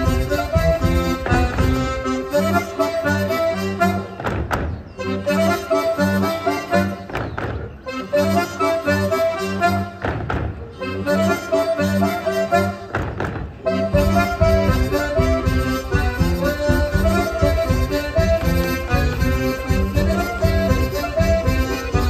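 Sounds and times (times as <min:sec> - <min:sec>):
accordion folk dance tune: 0:00.0 - 0:22.0.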